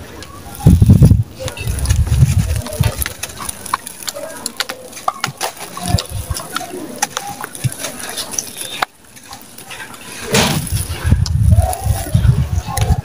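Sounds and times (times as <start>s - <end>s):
dry cement lumps crunching: 0.0s - 13.0s.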